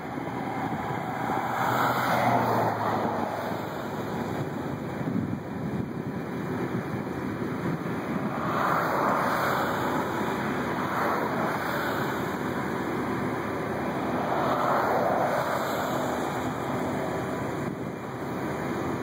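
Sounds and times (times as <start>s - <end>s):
wind blowing over microphone: 0.0s - 19.0s.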